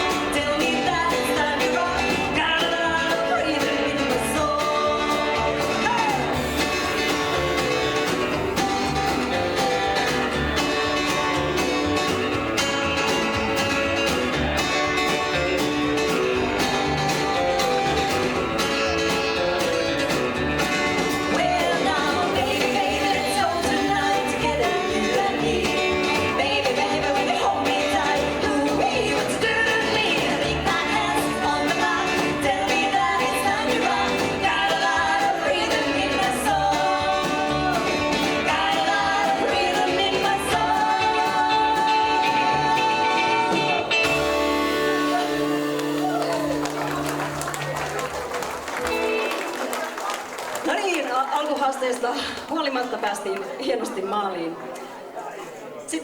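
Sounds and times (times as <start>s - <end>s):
live rockabilly band playing: 0.0s - 54.4s.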